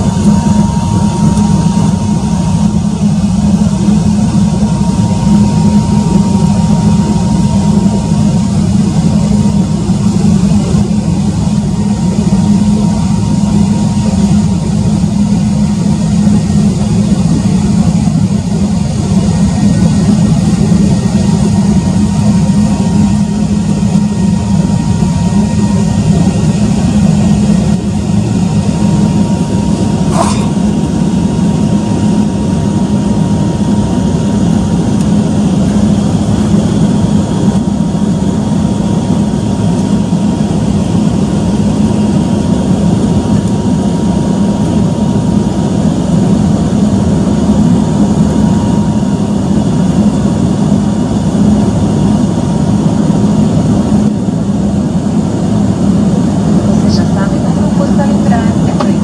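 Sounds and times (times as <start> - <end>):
faint steady whine: 0.0 - 59.0
jet engines cabin rumble: 0.0 - 59.0.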